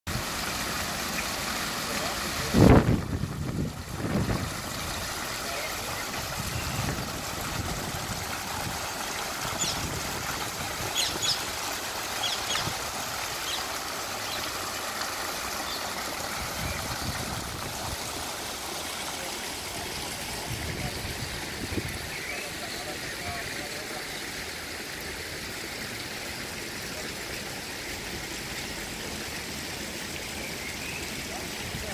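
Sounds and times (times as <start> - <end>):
fountain water splashing: 0.1 - 31.9.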